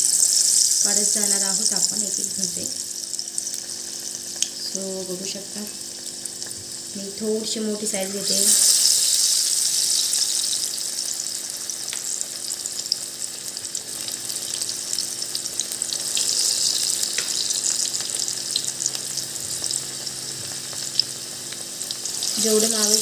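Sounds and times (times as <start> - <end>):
batter sizzling in hot oil: 0.0 - 23.0.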